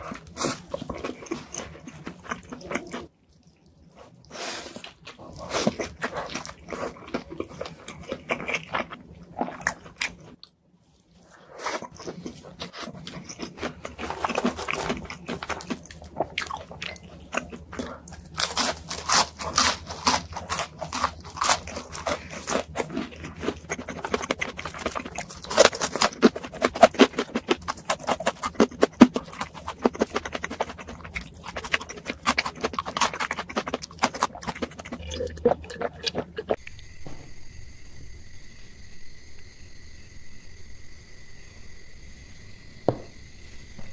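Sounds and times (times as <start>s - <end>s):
chewing and crunching food: 0.0s - 36.9s.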